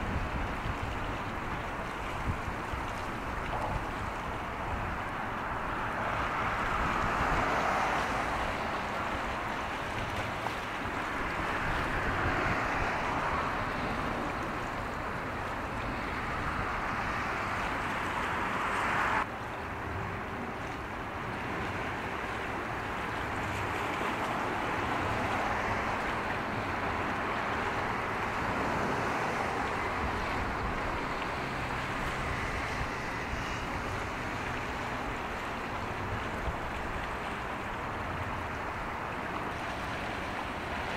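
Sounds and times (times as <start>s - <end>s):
sea water washing: 0.0s - 40.9s
wind: 0.0s - 40.9s.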